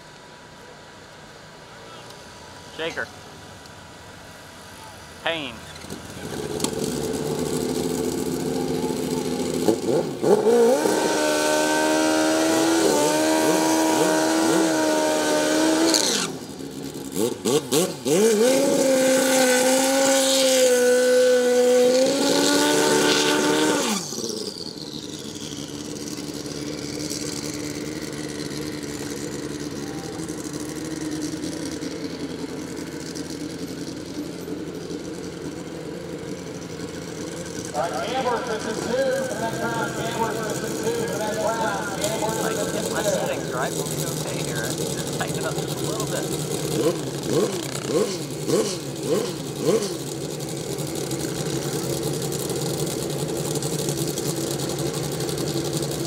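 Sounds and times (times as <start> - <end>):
engine crackles and blips: 0.0 - 56.0
motorcycle engines idling: 0.0 - 56.0
motorcycle engines revving high: 0.0 - 56.0
rear tyre spinning: 5.7 - 56.0.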